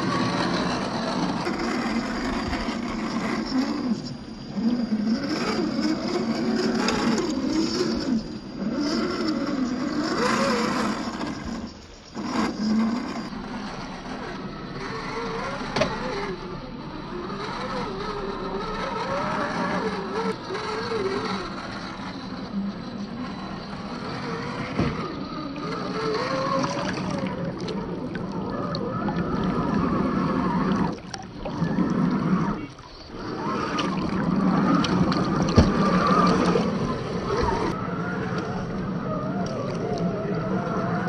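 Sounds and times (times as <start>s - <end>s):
rc car motor whining: 0.0s - 41.0s.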